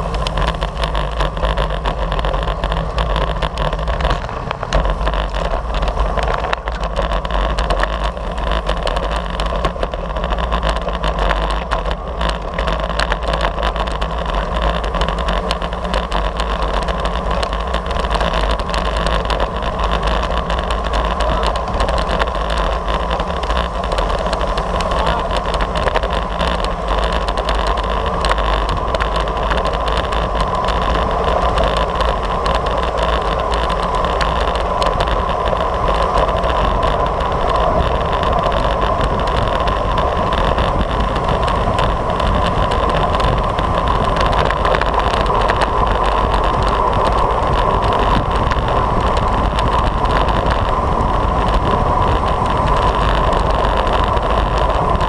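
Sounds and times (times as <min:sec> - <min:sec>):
deep rumble: 0:00.0 - 0:55.0
wind buffeting microphone: 0:00.0 - 0:55.0.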